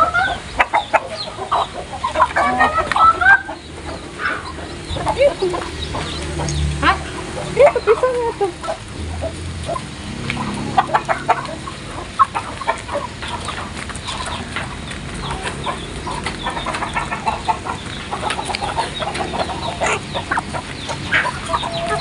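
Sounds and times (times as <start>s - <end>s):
chickens clucking: 0.0s - 22.0s
chickens pecking ticks: 0.0s - 22.0s.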